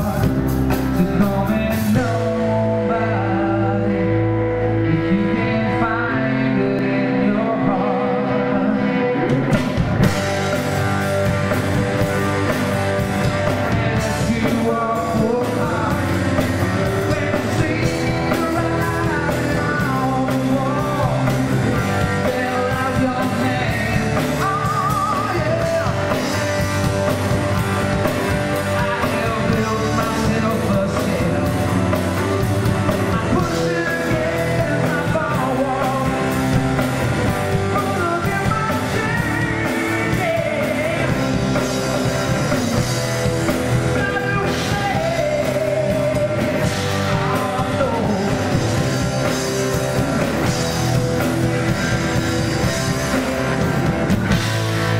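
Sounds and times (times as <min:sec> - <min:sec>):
steady drum beat: 0:00.0 - 0:02.8, 0:09.2 - 0:54.9
man singing: 0:00.0 - 0:54.4
electric guitar: 0:00.0 - 0:54.9.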